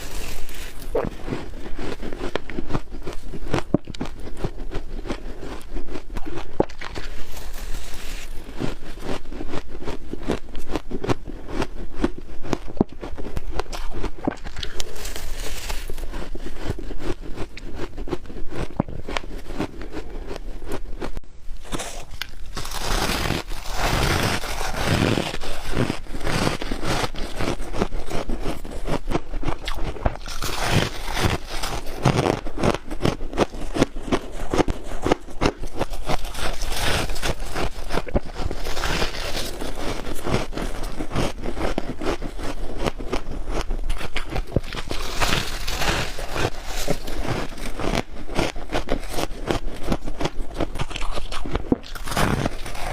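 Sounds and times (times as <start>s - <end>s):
chewing frost crunches: 0.0s - 52.9s.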